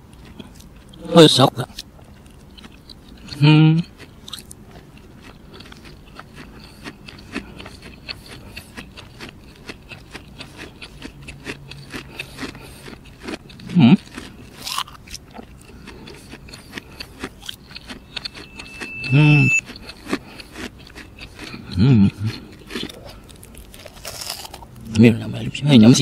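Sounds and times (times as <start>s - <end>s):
crunchy chewing: 0.0s - 1.0s, 1.6s - 25.0s.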